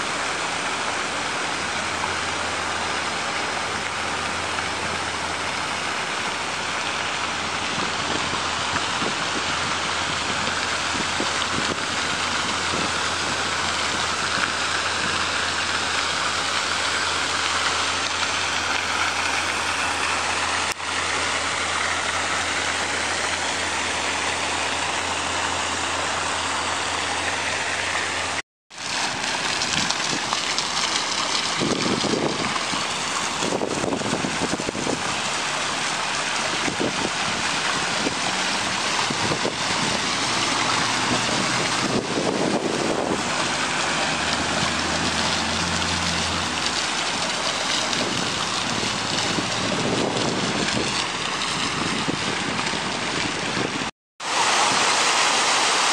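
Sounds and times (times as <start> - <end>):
fountain water splashing: 0.0 - 55.9
road traffic hum: 0.0 - 55.9.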